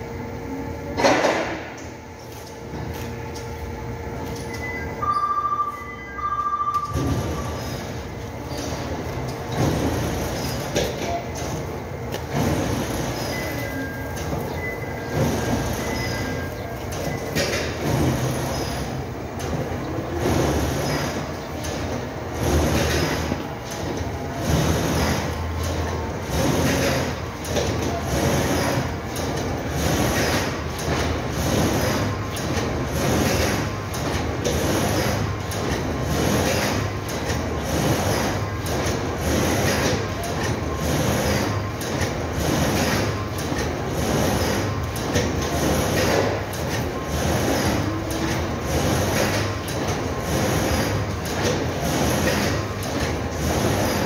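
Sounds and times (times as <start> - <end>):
machinery running with regular beat: 0.0 - 54.0.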